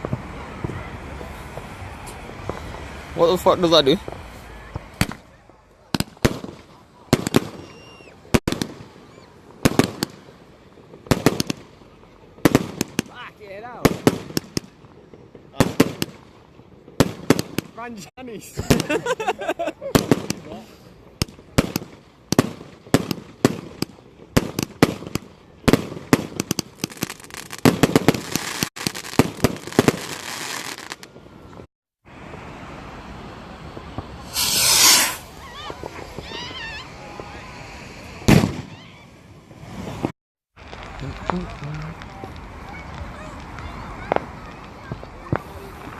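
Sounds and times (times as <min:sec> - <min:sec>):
fireworks banging: 0:00.0 - 0:45.9.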